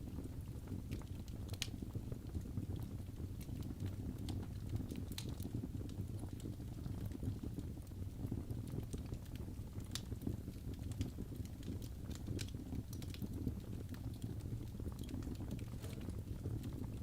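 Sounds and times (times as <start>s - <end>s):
low rumble of flames: 0.0s - 17.0s
logs crackling and popping: 0.1s - 17.0s.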